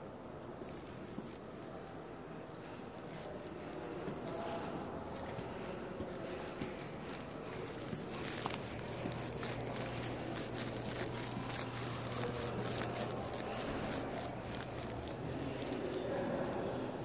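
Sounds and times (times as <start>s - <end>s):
steady low hum: 0.0s - 17.0s
crinkly rustling and crackles: 0.4s - 17.0s.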